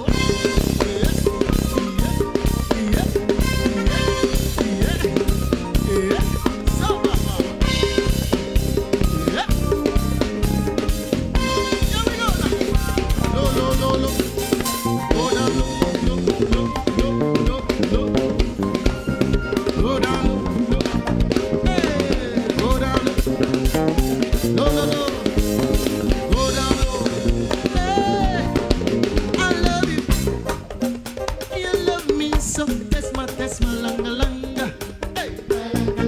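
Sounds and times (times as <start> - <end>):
drum kit beat: 0.0 - 36.0
electric bass guitar: 0.0 - 36.0
keyboard: 0.0 - 36.0.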